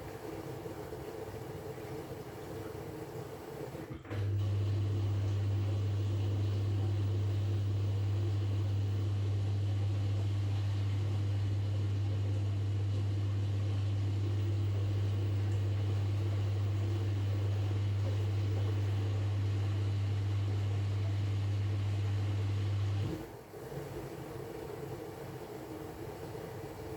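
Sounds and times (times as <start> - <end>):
washing machine hum: 0.0 - 26.9.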